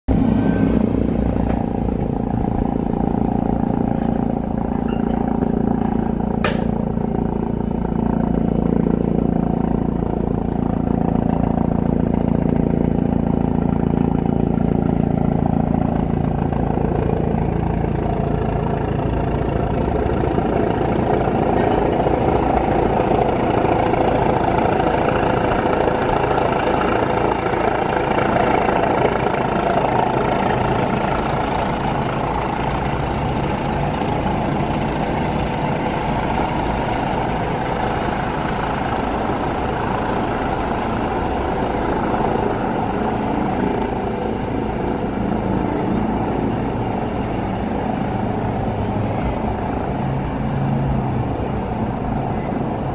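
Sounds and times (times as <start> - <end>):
helicopter engine and rotor: 0.1 - 52.9.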